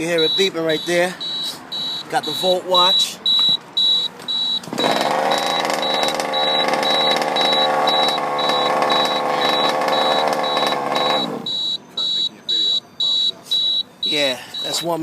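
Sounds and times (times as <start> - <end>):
short high beeps: 0.1 - 15.0.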